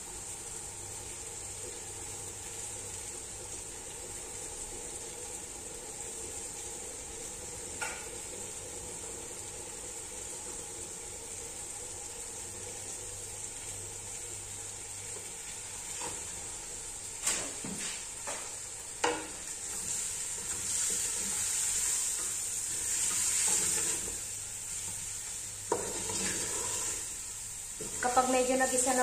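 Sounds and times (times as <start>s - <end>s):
food sizzling in a pot: 0.0s - 29.0s.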